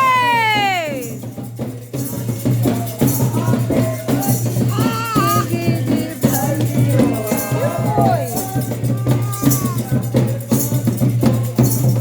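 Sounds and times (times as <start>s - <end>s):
percussion strokes: 0.0s - 12.0s
voices singing: 0.0s - 12.0s.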